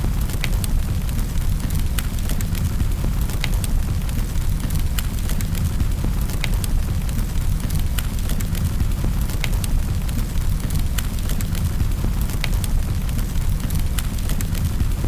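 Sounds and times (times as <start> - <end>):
fire popping and snapping: 0.0 - 15.0
low rumble of flames: 0.0 - 15.0.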